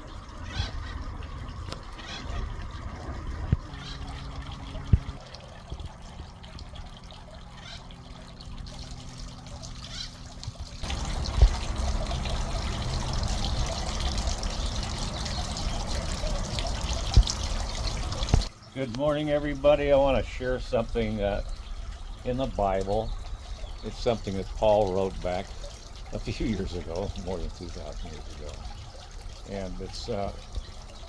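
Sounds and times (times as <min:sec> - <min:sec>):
faint steady hum: 0:00.0 - 0:31.0
water trickling and splashing: 0:00.0 - 0:31.0.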